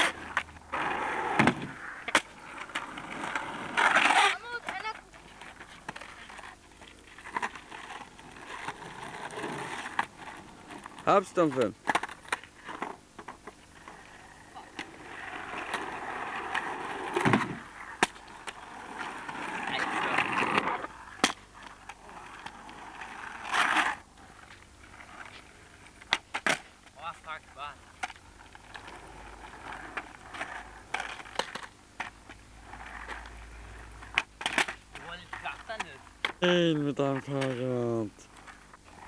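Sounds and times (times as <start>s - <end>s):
skateboard clacking on road: 0.0s - 39.0s
skateboard wheels rolling on asphalt: 0.0s - 39.0s.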